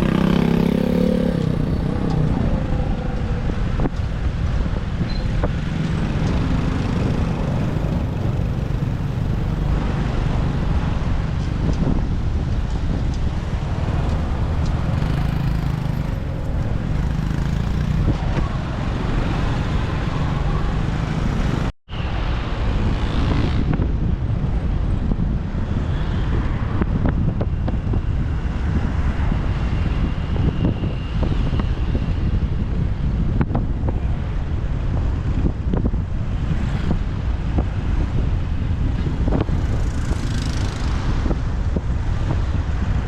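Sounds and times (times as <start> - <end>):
road traffic rumbling: 0.0 - 43.0
wind rushing over microphone: 0.0 - 43.0.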